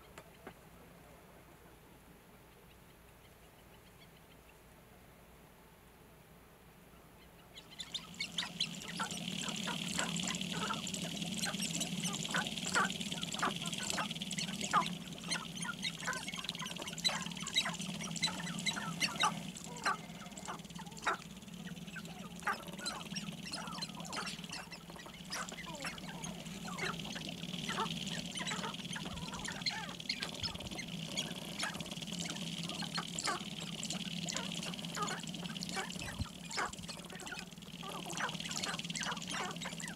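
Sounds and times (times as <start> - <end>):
low steady hum: 0.0 - 39.9
grouse clucking calls: 7.6 - 39.9.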